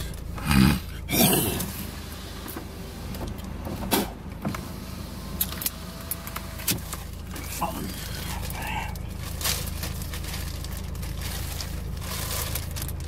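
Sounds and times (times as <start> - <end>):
low hum inside car: 0.0 - 13.0.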